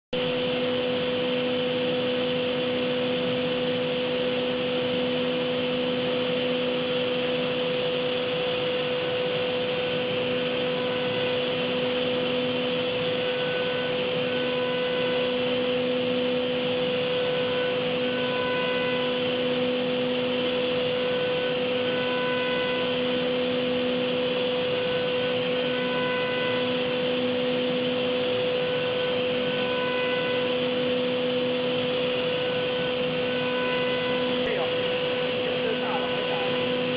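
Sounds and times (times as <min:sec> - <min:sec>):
milling machine hum: 0:00.1 - 0:36.9.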